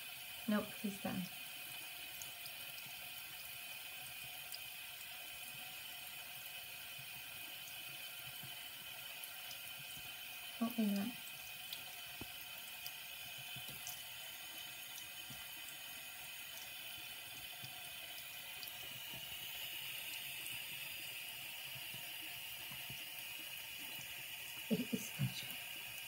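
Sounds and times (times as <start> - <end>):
faucet running water: 0.0 - 26.0.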